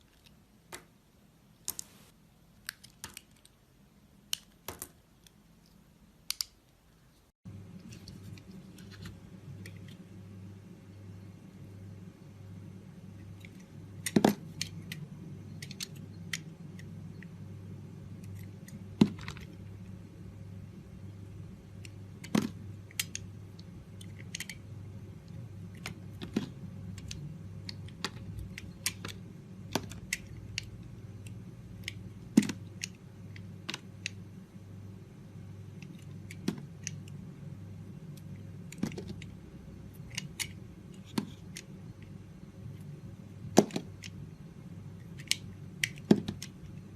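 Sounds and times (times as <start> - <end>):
steady low hum: 5.4 - 46.9.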